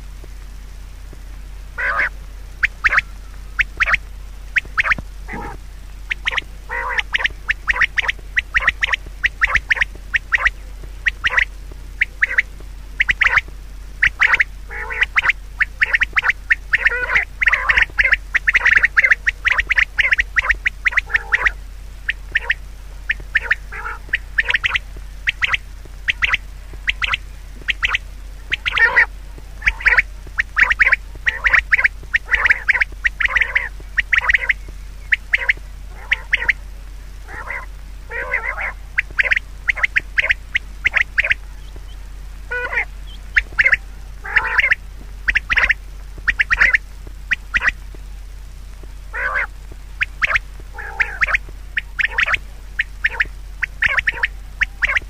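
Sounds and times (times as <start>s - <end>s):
steady low hum: 0.0s - 55.0s
birds calling sharply: 1.8s - 36.6s, 37.3s - 47.8s, 49.1s - 55.0s.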